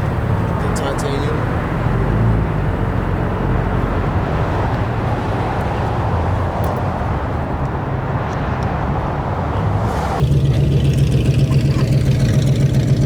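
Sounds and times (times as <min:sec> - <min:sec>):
car engines running: 0:00.0 - 0:13.0
traffic rumble: 0:00.0 - 0:13.0.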